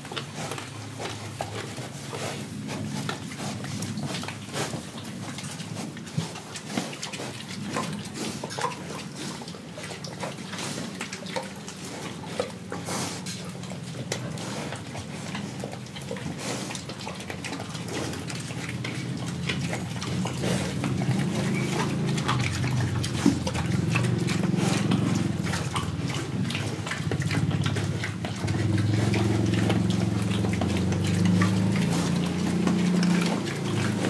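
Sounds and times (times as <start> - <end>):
pigs eating with wet smacks: 0.0 - 34.0
pigs grunting: 0.0 - 34.0.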